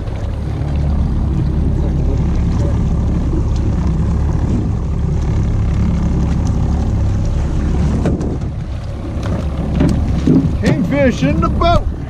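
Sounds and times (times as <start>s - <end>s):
outboard motor running: 0.0s - 12.0s
water noise: 0.0s - 12.0s
wind: 0.0s - 12.0s.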